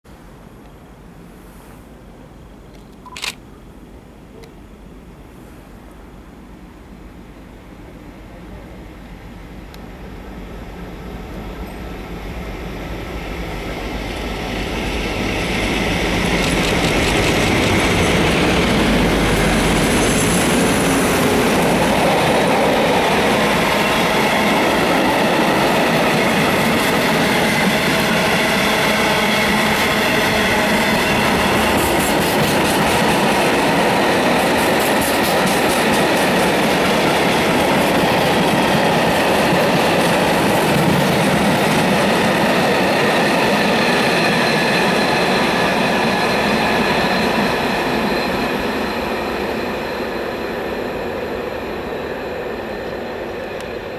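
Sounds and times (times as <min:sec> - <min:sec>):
diesel locomotive engine: 0:06.4 - 0:53.9.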